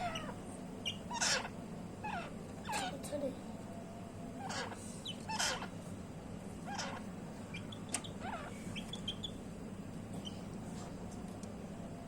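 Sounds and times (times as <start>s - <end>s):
birds calling: 0.0s - 10.7s
steady low hum: 0.0s - 12.0s.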